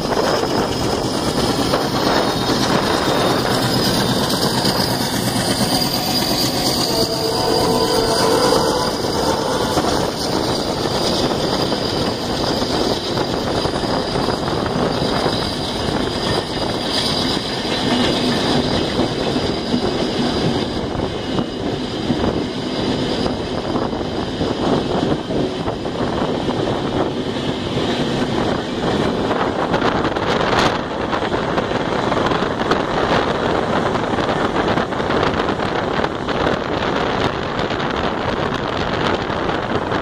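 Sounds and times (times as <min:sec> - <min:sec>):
train wheels clattering on rails: 0:00.0 - 0:40.0.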